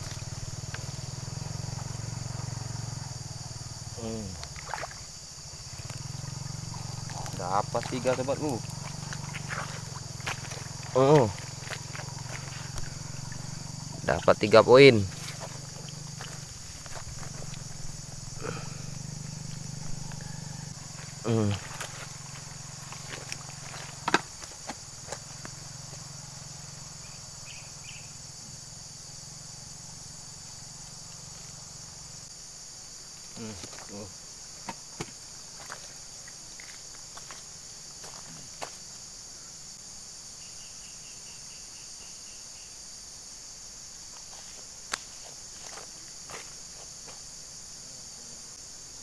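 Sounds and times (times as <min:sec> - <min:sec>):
insect chorus drone: 0:00.0 - 0:49.0.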